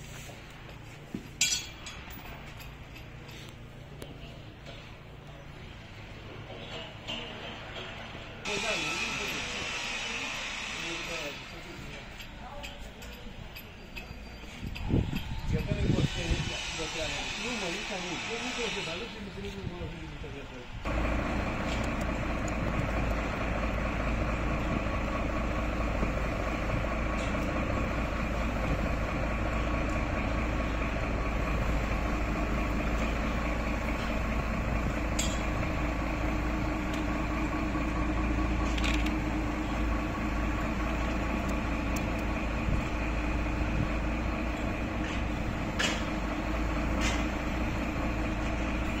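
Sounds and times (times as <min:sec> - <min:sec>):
diesel truck engine rumbling: 0:00.0 - 0:49.0.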